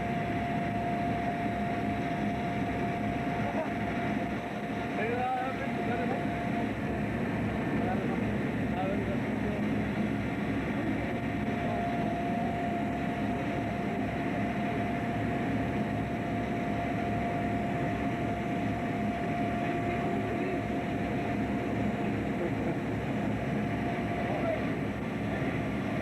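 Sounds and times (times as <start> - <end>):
boat engine droning: 0.0 - 26.0
steady high whine: 0.0 - 26.0.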